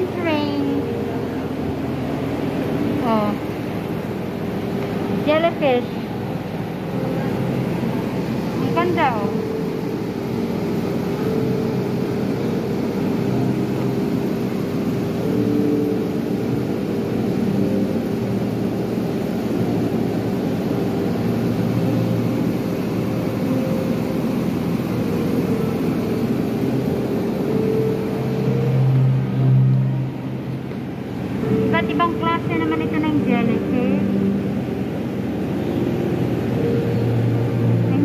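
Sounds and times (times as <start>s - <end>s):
background rumble and hum: 0.0s - 38.0s.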